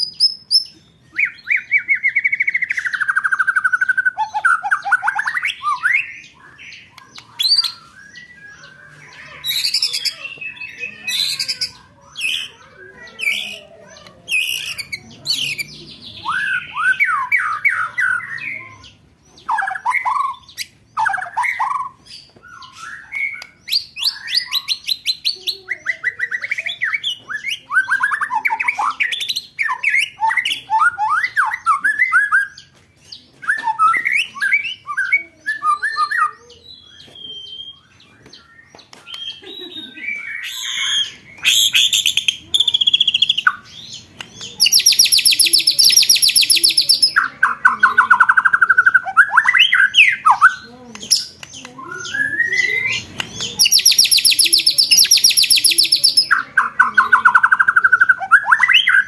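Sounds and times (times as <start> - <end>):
songbird trilling song: 0.0 - 59.0.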